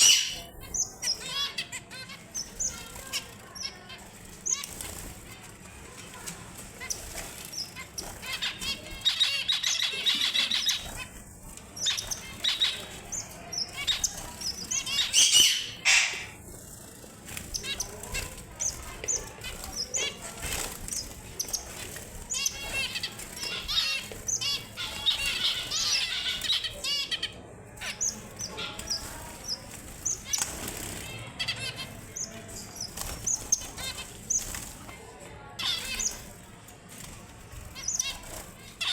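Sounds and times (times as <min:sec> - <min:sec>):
finches chirping: 0:00.0 - 0:05.4, 0:06.2 - 0:36.4, 0:37.7 - 0:38.9
fast warbling birdsong: 0:00.0 - 0:38.9
wings fluttering: 0:00.1 - 0:38.9.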